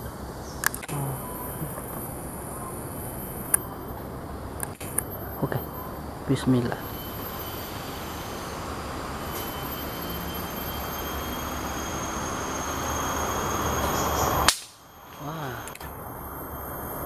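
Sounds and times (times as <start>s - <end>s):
faint high steady tones: 0.0s - 17.0s.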